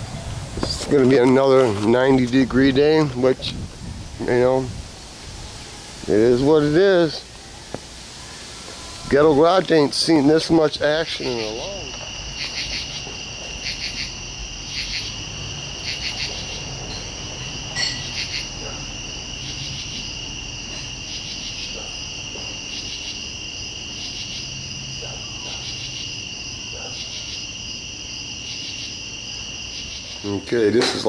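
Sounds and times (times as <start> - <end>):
crickets trilling: 0.0 - 31.0
pulsing insect call: 1.4 - 30.9.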